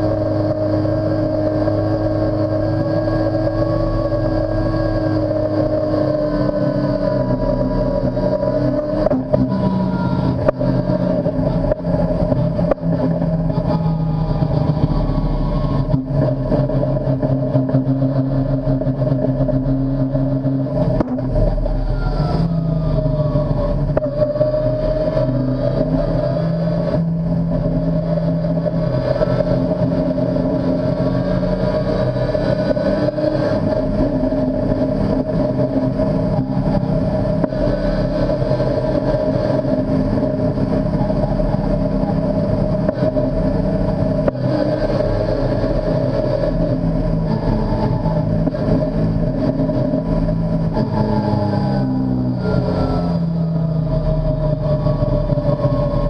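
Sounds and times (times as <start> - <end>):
race car engine at low revs: 0.0 - 56.0.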